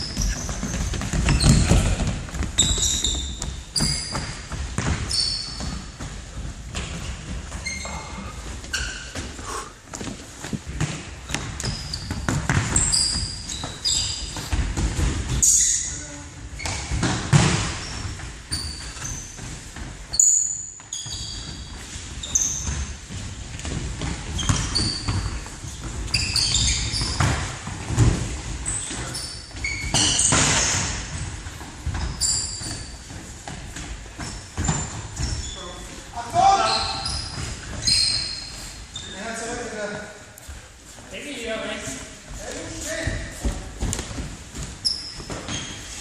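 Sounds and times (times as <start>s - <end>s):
sneakers squeaking on hall floor: 0.0s - 46.0s.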